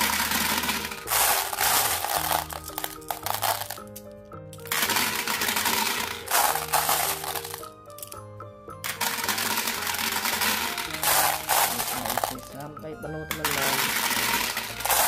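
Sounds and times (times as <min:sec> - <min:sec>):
glass marbles clattering into plastic: 0:00.0 - 0:08.2, 0:08.8 - 0:15.0
background music: 0:00.0 - 0:15.0.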